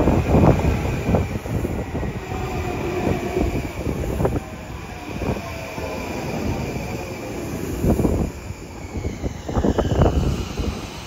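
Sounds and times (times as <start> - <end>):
train cars rumbling: 0.0 - 11.0.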